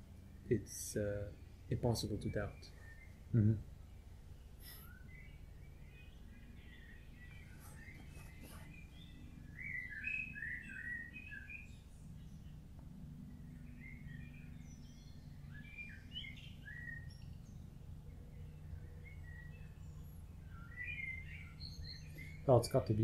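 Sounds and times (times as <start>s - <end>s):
steady low hum: 0.0s - 23.0s
wild birds chirping and singing: 0.0s - 23.0s.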